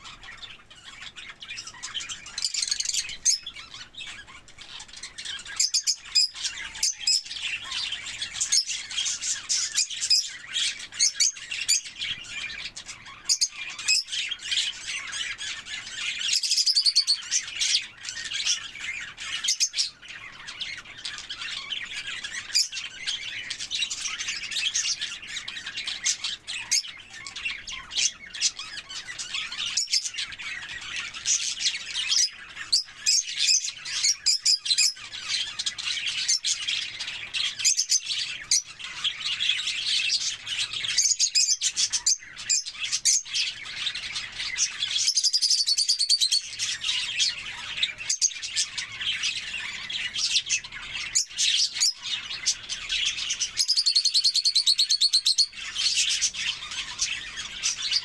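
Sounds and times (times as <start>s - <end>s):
rapid trilling bird call: 0.0s - 58.0s
small birds chirping: 0.0s - 58.0s.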